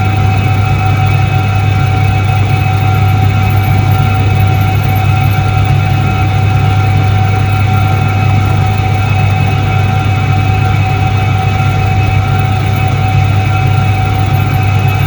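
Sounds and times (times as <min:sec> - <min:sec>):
washing machine low hum: 0:00.0 - 0:15.0
washing machine whine: 0:00.0 - 0:15.0.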